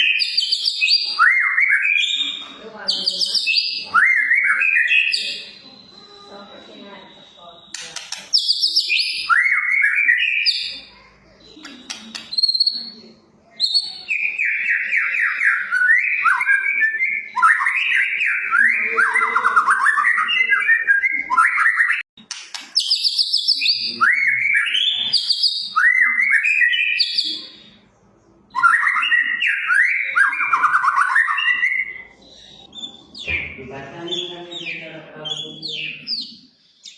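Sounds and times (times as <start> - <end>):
songbird whistling song: 0.0 - 6.4, 7.2 - 22.0, 22.8 - 27.8, 28.5 - 36.9.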